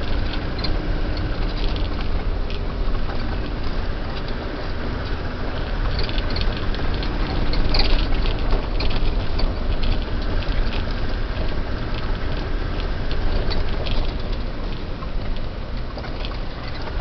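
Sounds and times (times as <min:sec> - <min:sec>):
clicks and rattles: 0:00.0 - 0:17.0
engine and drivetrain rumble: 0:00.0 - 0:17.0.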